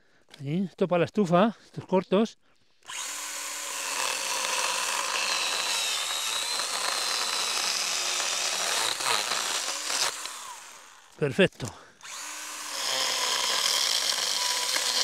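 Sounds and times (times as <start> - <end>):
chainsaw motor whine: 2.9 - 15.0.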